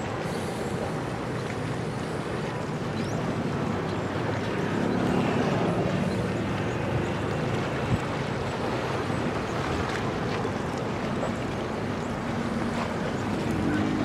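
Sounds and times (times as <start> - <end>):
low ship engine hum: 0.0 - 14.0
water wash: 0.0 - 14.0.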